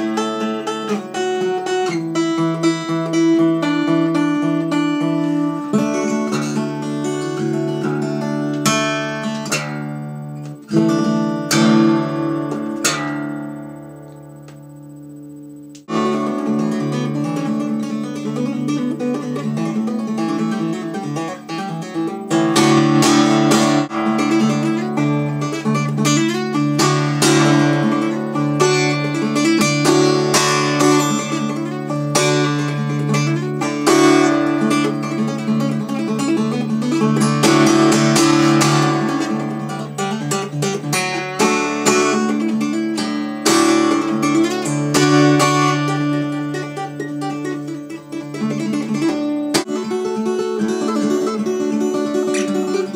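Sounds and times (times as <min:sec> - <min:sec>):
fingerstyle acoustic guitar: 0:00.0 - 0:52.9
percussive guitar strikes: 0:00.0 - 0:52.9.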